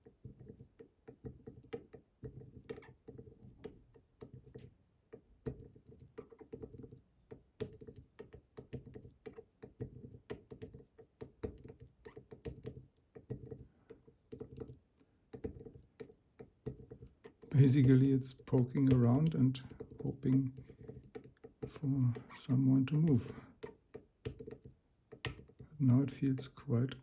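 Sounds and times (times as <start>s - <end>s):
lock pick clicking and tapping: 0.0s - 22.4s, 23.6s - 25.7s.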